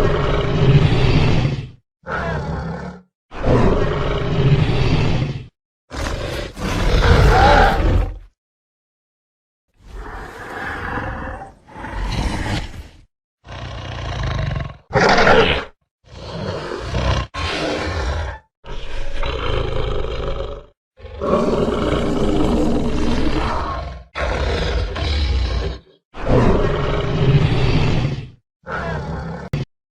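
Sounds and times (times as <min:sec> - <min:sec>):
dinosaur roars: 0:00.0 - 0:08.4, 0:09.8 - 0:29.7.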